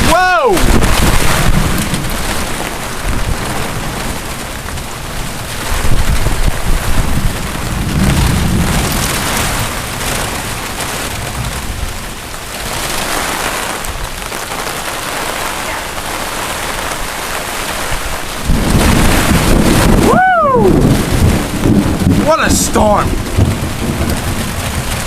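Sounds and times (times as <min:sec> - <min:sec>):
torrential rain pouring: 0:00.0 - 0:25.0
wind gusts buffeting microphone: 0:00.0 - 0:25.0.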